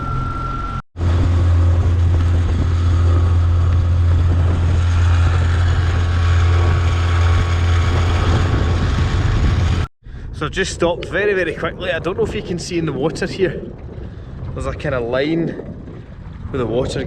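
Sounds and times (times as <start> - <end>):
outboard motor droning: 0.0 - 9.9, 12.8 - 17.0
wind: 0.0 - 17.0.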